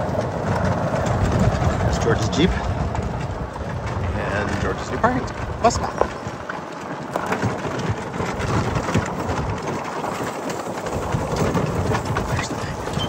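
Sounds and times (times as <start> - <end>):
tyres crunching on gravel: 0.0 - 13.0.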